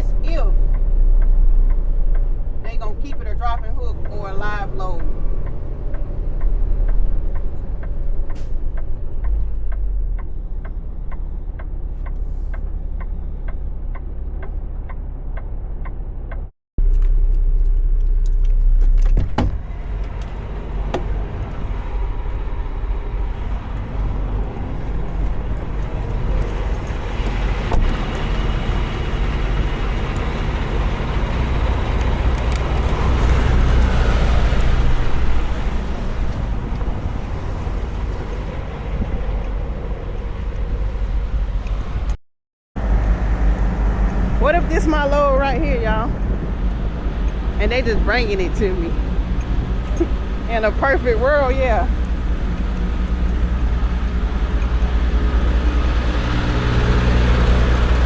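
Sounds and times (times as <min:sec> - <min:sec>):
road noise: 0:00.0 - 0:42.2, 0:42.8 - 0:58.0
truck engine rumble: 0:00.0 - 0:42.2, 0:42.8 - 0:58.0.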